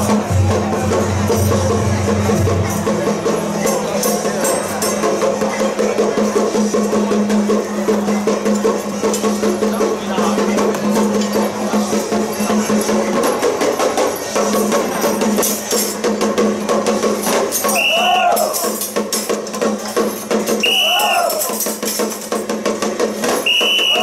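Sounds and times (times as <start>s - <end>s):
procession music with percussion: 0.0s - 24.0s.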